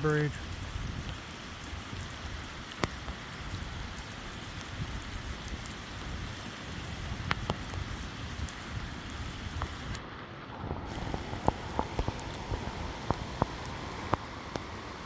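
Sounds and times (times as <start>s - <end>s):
steady pouring rain: 0.0s - 15.0s.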